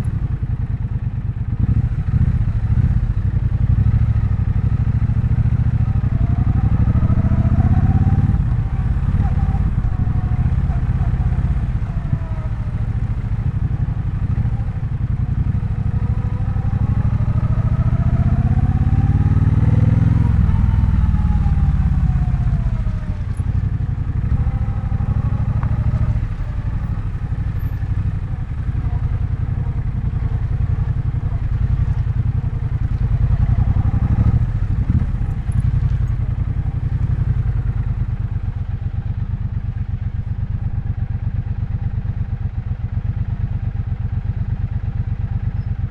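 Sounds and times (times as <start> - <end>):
motorcycle engine revving: 0.0 - 45.8.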